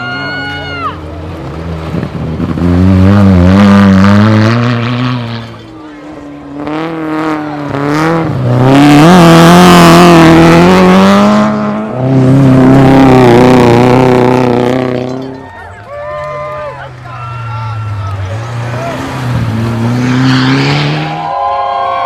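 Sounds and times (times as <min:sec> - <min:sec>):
rally car engine revving: 0:00.0 - 0:15.4, 0:16.2 - 0:21.4.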